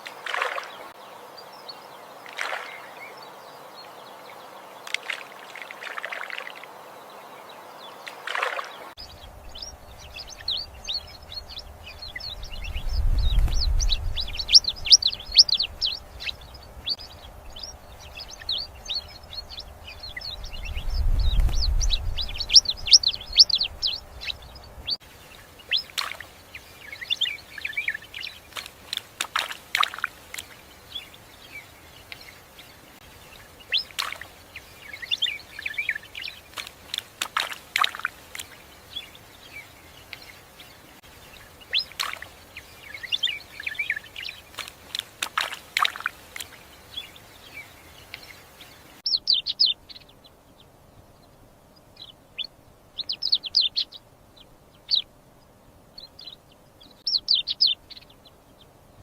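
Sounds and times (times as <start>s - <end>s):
background hiss: 0.0s - 59.0s
small birds chirping: 0.0s - 59.0s.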